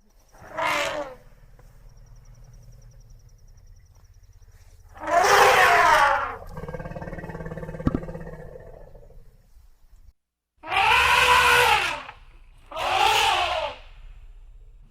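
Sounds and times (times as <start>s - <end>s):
elephant low rumble: 0.0s - 14.9s
elephant calling: 0.3s - 9.2s, 10.6s - 14.3s.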